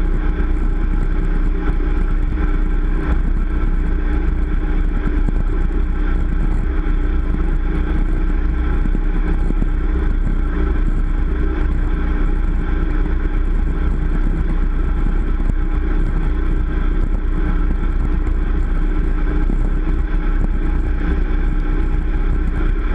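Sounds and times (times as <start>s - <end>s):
churning wake: 0.0s - 22.9s
motorboat engine running: 0.0s - 22.9s.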